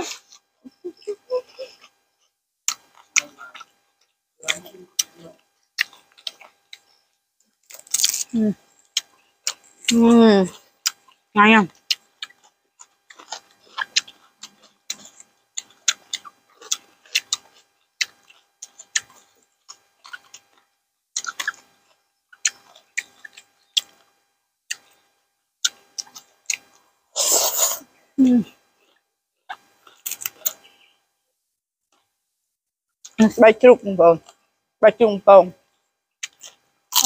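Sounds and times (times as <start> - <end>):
person chewing and crunching: 1.1 - 27.9, 28.5 - 30.9, 36.2 - 37.0.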